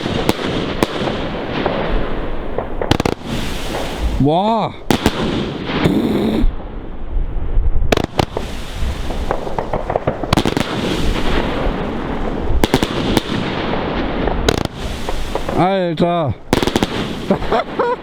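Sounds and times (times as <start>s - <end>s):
fireworks crackling hiss: 0.0s - 6.8s, 7.9s - 18.0s
firework bangs: 0.0s - 7.0s, 7.8s - 15.8s, 16.4s - 18.0s.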